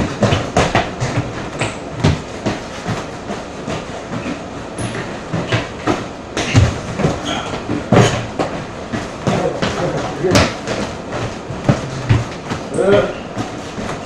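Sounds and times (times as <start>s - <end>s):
feet thumping on a floor: 0.0s - 14.0s.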